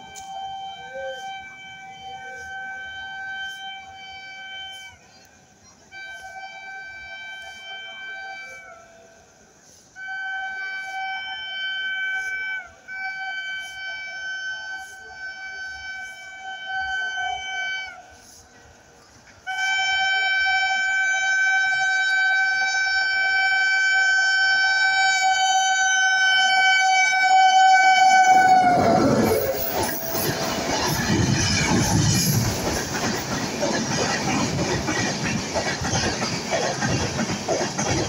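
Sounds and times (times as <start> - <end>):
train horn blasts: 0.0 - 33.2
train coaches rushing past: 0.0 - 38.0.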